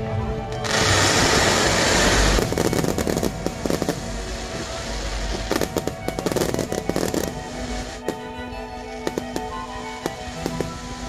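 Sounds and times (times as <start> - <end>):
fireworks crackling: 0.6 - 11.0.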